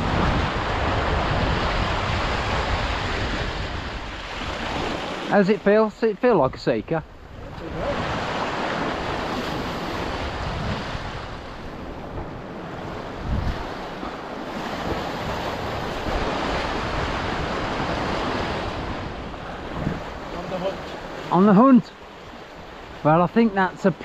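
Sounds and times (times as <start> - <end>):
wind buffeting microphone: 0.0 - 5.3, 6.3 - 21.4
surf washing against rocks: 0.0 - 24.0.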